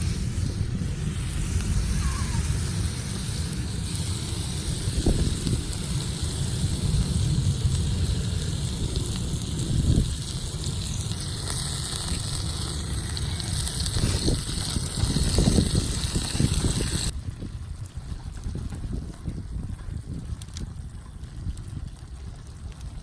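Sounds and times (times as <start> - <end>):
campfire crackling: 0.0 - 23.0
wind buffeting microphone: 0.0 - 23.0.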